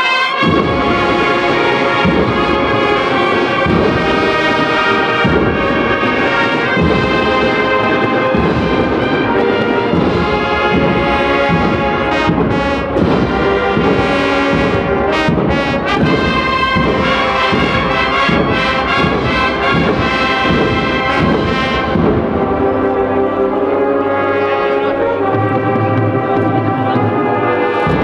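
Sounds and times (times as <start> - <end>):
marching band playing: 0.0 - 28.0.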